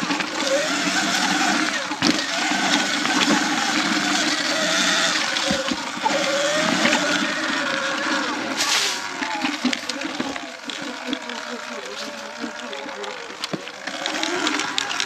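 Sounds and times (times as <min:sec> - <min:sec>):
electric motor whine: 0:00.0 - 0:15.0
tyre and rattle noise: 0:00.0 - 0:15.0.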